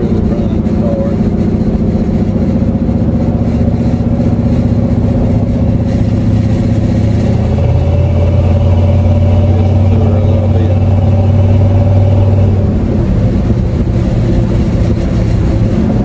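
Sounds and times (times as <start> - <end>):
truck engine and exhaust drone: 0.0 - 16.0.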